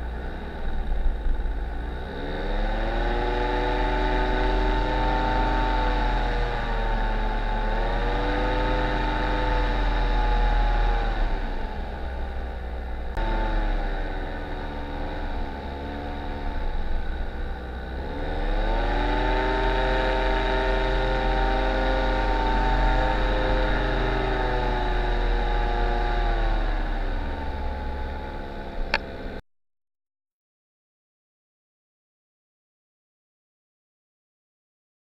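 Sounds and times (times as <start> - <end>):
paramotor engine and propeller: 0.0 - 29.4.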